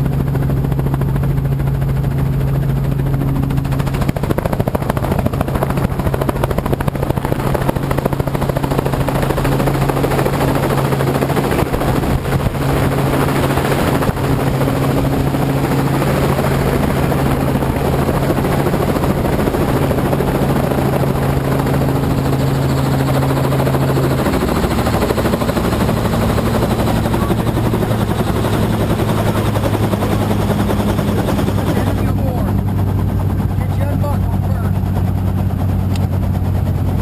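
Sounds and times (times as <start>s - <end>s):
helicopter rotor and engine drone: 0.0s - 37.0s.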